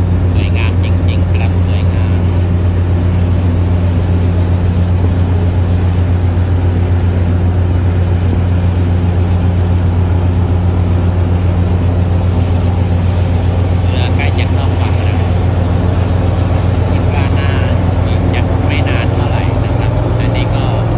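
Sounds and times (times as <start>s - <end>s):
ferry engines droning: 0.0s - 20.9s.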